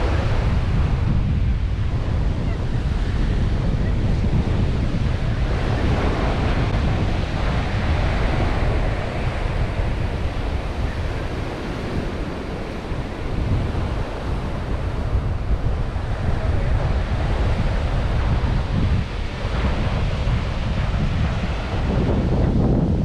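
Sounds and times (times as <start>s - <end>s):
sea waves washing onto shore: 0.0s - 23.0s
wind rumbling on microphone: 0.0s - 23.0s.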